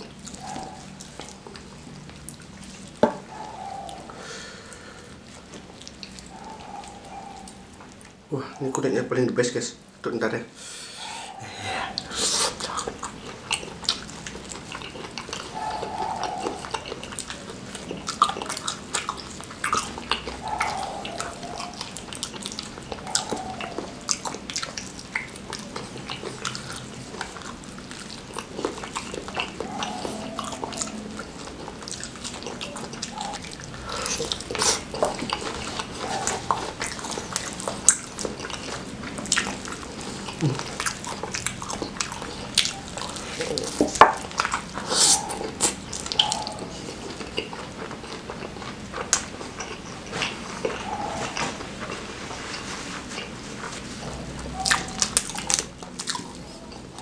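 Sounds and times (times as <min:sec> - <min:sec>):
wet chewing and lip smacks: 0:00.0 - 0:08.9, 0:11.9 - 0:57.0.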